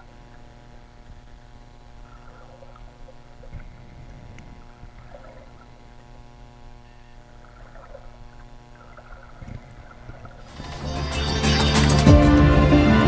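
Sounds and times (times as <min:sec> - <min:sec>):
faint underwater gurgles: 0:00.0 - 0:10.7
underwater low hum and rumble: 0:00.0 - 0:10.9.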